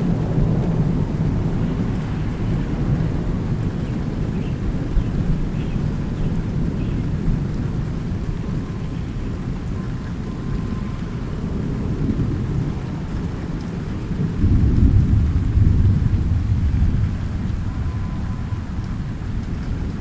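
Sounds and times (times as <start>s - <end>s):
rain falling: 0.0s - 20.0s
rolling thunder rumble: 0.0s - 20.0s.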